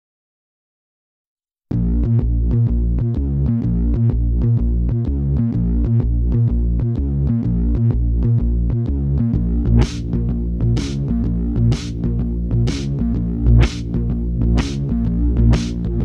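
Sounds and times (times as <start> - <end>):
pulsing bass line: 1.7 - 16.0.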